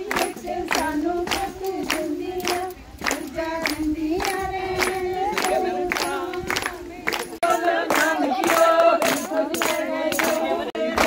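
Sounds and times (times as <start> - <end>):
hand clapping: 0.0 - 11.0
women singing folk song in unison: 0.0 - 11.0.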